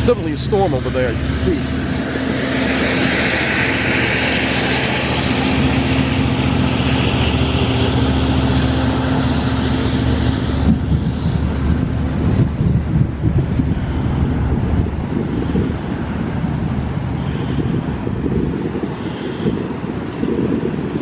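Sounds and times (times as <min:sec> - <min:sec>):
train mechanical hum: 0:00.0 - 0:21.0
wind buffeting microphone: 0:00.0 - 0:21.0.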